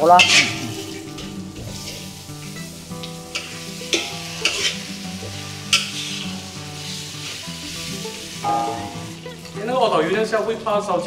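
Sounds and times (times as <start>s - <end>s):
metal spatula scraping a wok: 0.0s - 9.4s
aromatics sizzling in a wok: 0.0s - 11.0s.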